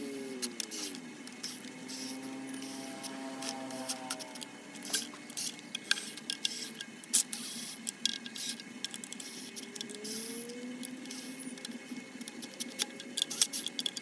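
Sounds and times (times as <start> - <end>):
tools clicking and tapping: 0.4 - 14.0.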